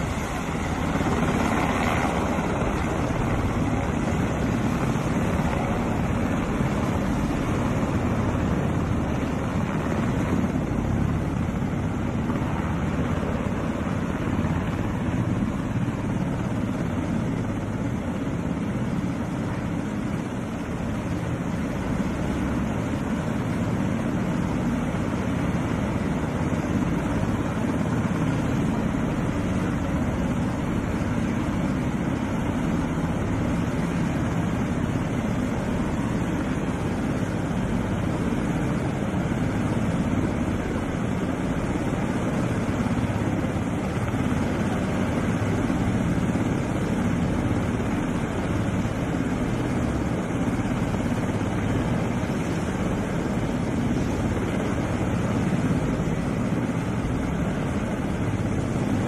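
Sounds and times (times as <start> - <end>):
helicopter rotors and engines drone: 0.0 - 59.0.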